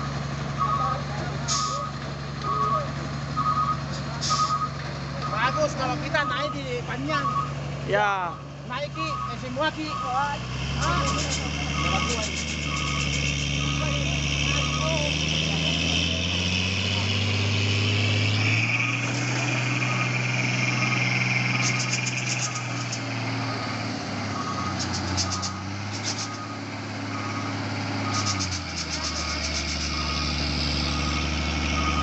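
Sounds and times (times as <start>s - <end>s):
diesel truck engine straining uphill: 0.0s - 32.0s.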